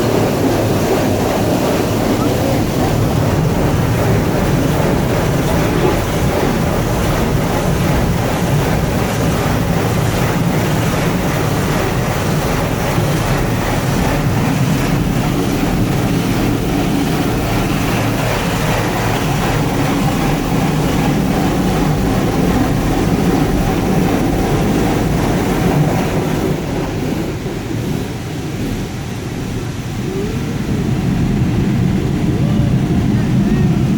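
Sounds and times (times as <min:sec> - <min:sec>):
high-pressure water jets spraying: 0:00.0 - 0:30.8.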